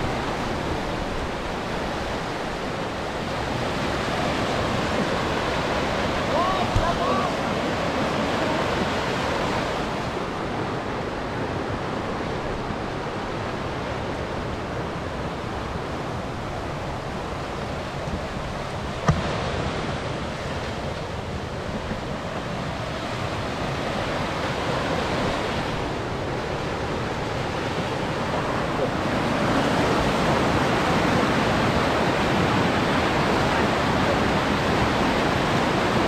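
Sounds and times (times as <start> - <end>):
river rapids rushing: 0.0 - 36.0.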